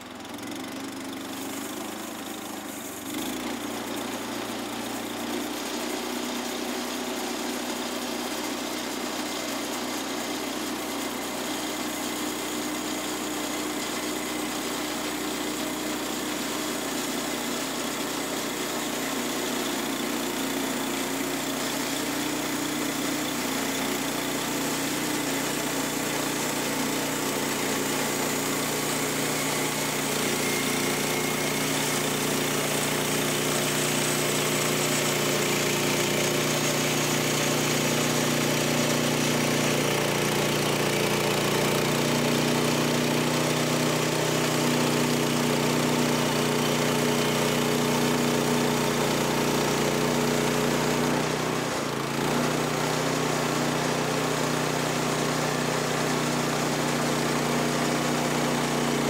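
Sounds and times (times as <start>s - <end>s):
band blade cutting log: 0.0s - 56.4s
gas engine running: 0.0s - 59.0s.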